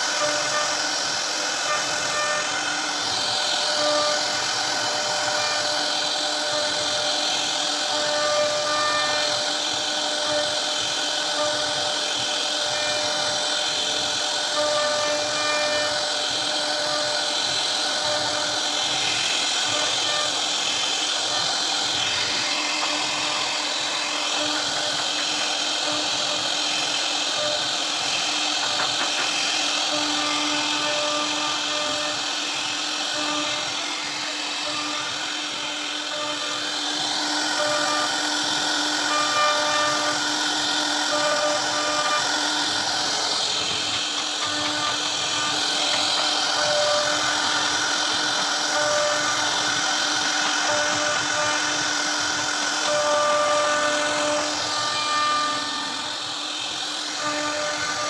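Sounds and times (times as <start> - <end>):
bit hissing through wood: 0.0 - 58.0
router spindle whine: 0.0 - 58.0.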